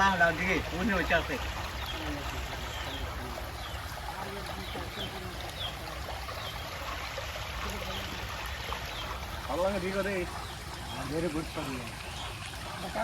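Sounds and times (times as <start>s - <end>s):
floodwater flowing: 0.0s - 13.0s.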